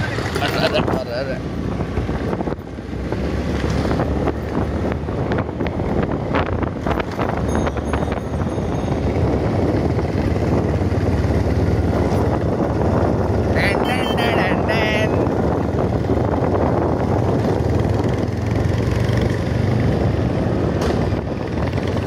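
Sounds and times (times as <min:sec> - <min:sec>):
motorcycle engines droning: 0:00.0 - 0:22.0
wind rushing over microphone: 0:00.0 - 0:22.0.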